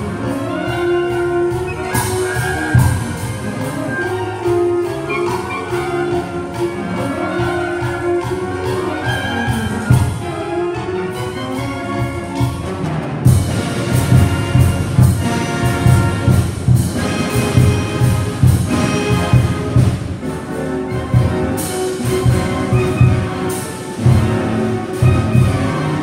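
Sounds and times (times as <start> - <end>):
concert band playing: 0.0 - 26.0.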